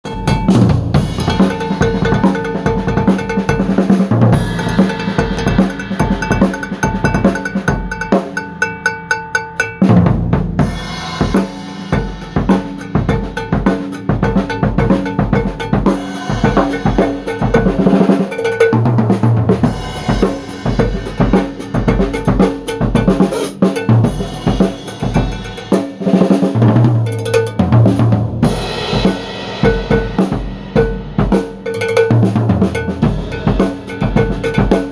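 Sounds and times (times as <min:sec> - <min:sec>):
cowbell strokes: 0:00.0 - 0:09.9, 0:10.7 - 0:28.0, 0:28.8 - 0:34.9
drum kit groove: 0:00.0 - 0:34.9.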